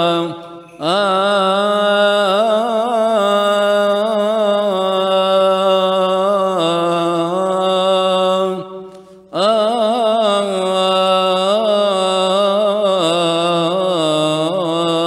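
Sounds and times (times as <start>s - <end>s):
man chanting melismatic melody: 0.0s - 8.7s, 9.4s - 15.0s.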